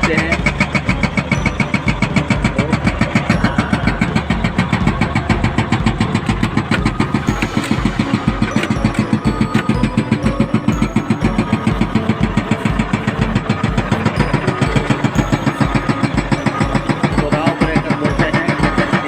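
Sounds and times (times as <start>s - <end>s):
heavy diesel engine pulsing: 0.0s - 19.0s.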